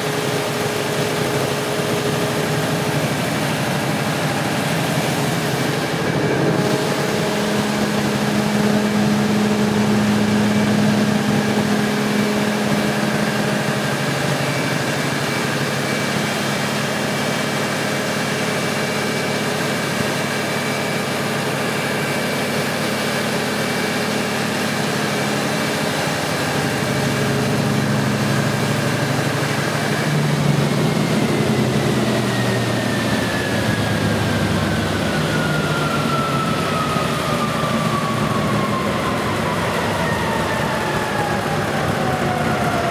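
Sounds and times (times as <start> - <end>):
diesel generator engine drone: 0.0 - 42.9.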